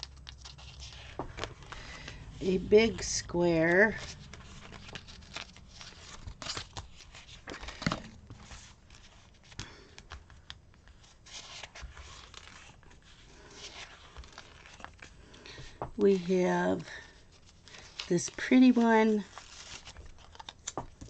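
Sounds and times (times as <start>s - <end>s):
paper rustling and crinkling: 0.0s - 21.0s.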